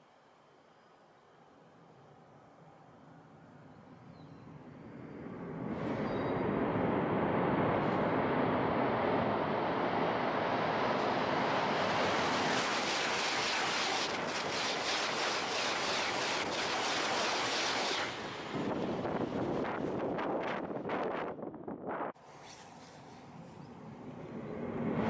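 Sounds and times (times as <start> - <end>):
high-speed train passing: 0.0 - 25.0.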